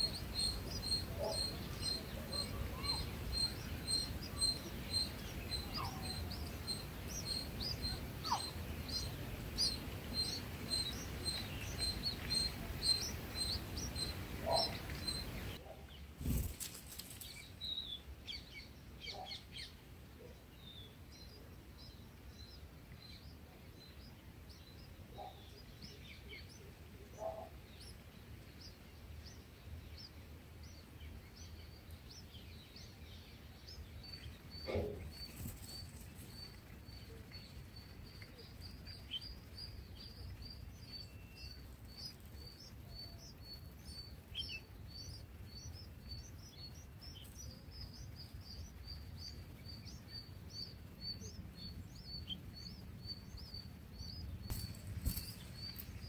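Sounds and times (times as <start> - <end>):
background hiss: 0.0 - 56.0
small birds chirping: 0.0 - 56.0.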